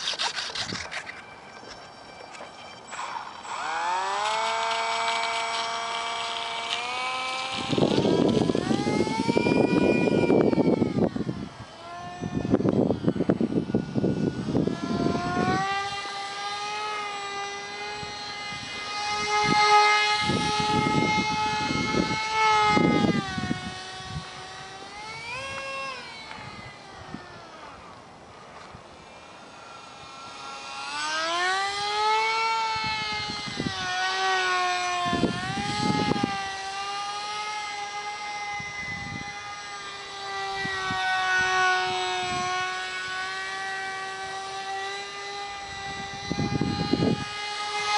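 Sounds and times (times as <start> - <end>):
small model jet motor whining: 0.0 - 47.9.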